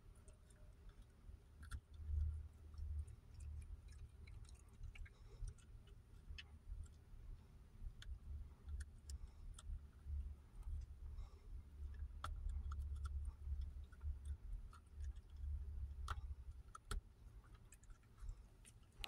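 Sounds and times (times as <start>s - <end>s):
dog chewing crunchy stalk: 0.0s - 19.0s.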